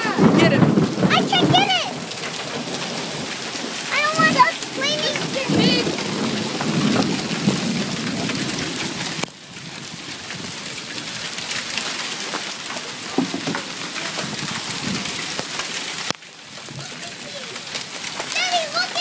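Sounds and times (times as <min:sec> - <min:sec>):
heavy rain pattering: 0:00.0 - 0:19.0
sharp ticks of hail: 0:00.0 - 0:19.0.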